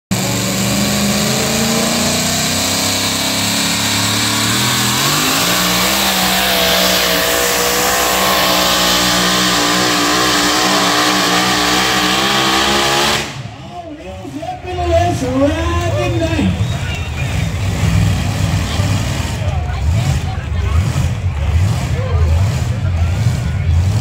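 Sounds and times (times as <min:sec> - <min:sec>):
truck engine running loud: 0:00.1 - 0:24.0.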